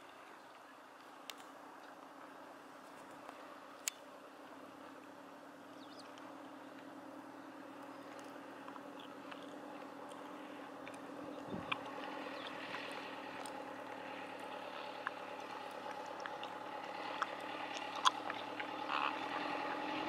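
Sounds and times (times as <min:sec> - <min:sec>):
low droning hum: 0:00.0 - 0:20.0.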